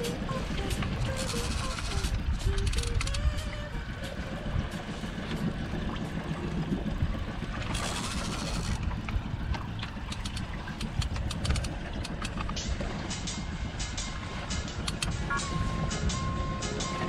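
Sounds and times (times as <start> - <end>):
wind on microphone: 0.0 - 16.9
outboard motor running: 0.0 - 17.0
water splashing against hull: 0.0 - 17.0.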